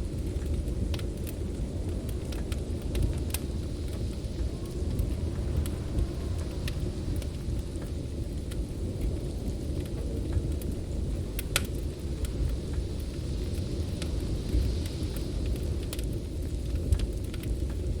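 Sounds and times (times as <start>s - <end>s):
snowstorm wind rumbling: 0.0s - 18.0s
wood fire crackling and popping: 0.0s - 18.0s.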